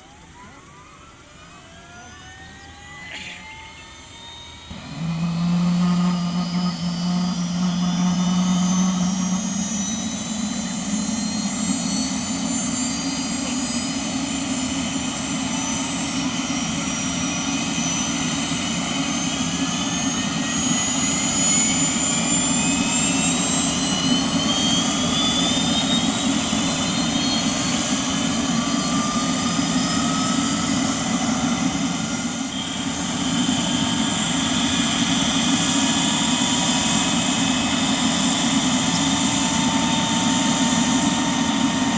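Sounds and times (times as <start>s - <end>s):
low engine running noise: 0.0s - 41.9s
turbine engine whine: 0.0s - 41.9s.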